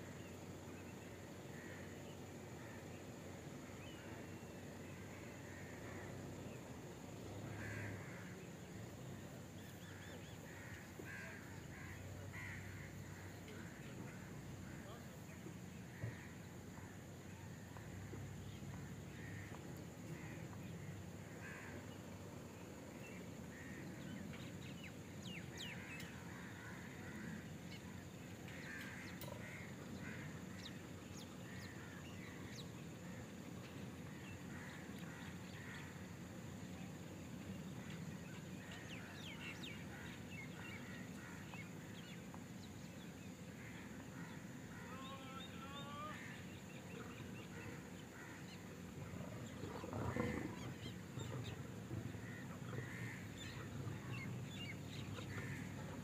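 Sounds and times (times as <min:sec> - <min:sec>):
birds calling: 0:00.1 - 0:56.0.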